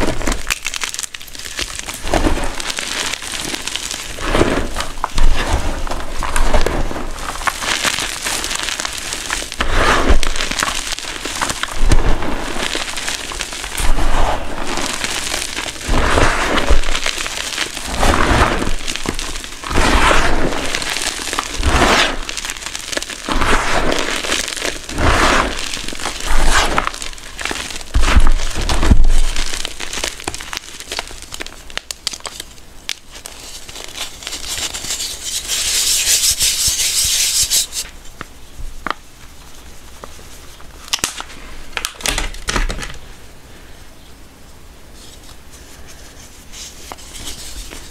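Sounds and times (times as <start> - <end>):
hands crushing chalk: 0.0 - 42.8, 45.0 - 47.9.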